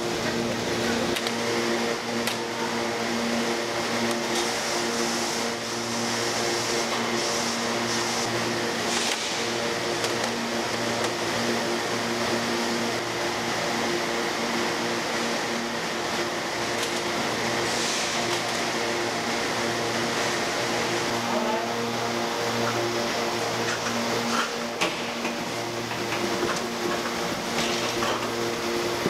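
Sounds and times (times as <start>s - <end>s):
machinery and ventilation hum: 0.0s - 29.0s.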